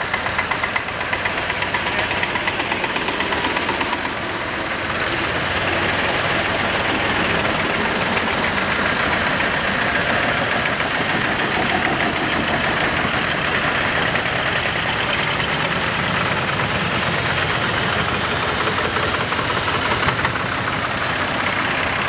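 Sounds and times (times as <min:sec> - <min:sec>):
tractor engines chugging: 0:00.0 - 0:22.0.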